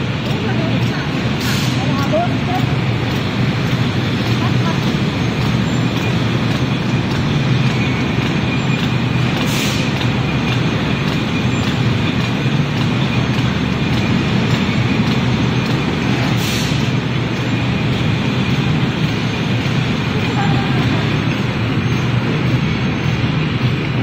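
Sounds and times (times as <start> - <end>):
labeling machine hum: 0.0 - 24.0.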